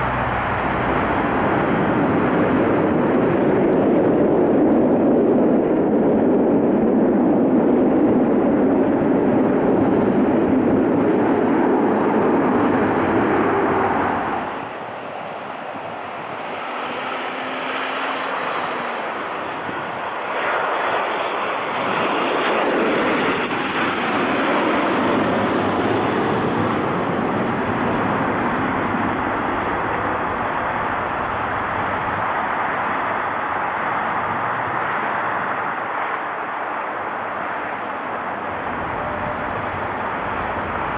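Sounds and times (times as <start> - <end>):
jet engine rushing: 0.0 - 37.1
aircraft passing with whine: 0.0 - 40.9.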